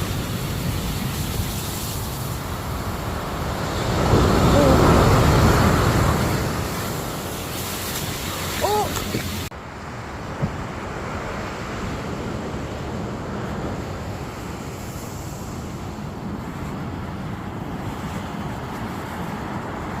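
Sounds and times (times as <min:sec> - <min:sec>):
sea surf rushing: 0:00.0 - 0:20.0.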